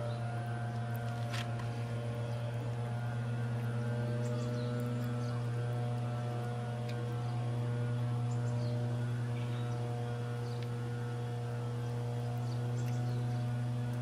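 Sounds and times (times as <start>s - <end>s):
mower engine droning: 0.0s - 14.0s.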